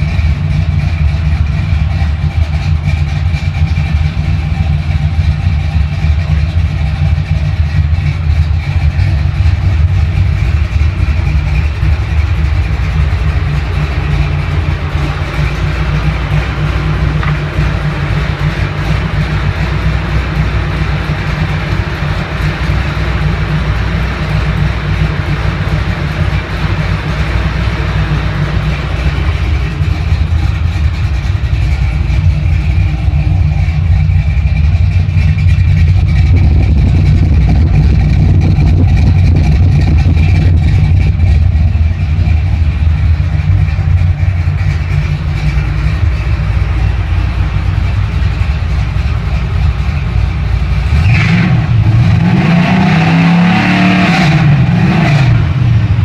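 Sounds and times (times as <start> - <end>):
engine idling with deep rumble: 0.0 - 56.0.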